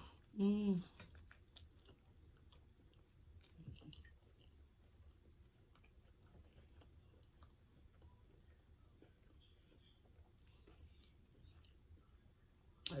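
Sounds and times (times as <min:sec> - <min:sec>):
faint chewing: 0:00.1 - 0:13.0.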